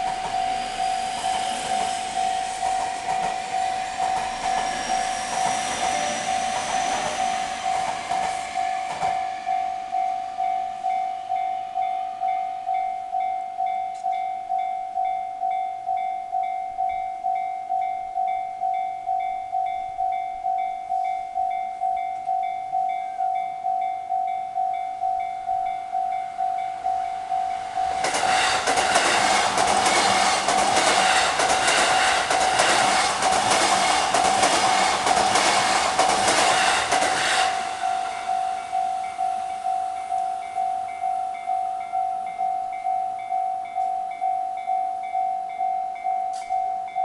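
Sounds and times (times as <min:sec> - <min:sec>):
level-crossing warning bell: 0:00.0 - 0:47.0
train passing: 0:00.0 - 0:47.0.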